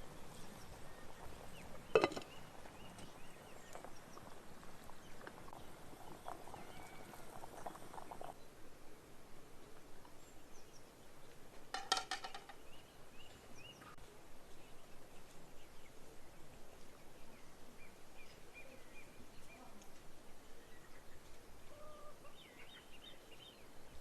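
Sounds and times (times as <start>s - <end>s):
small birds chirping: 0.0s - 8.6s, 12.2s - 24.0s.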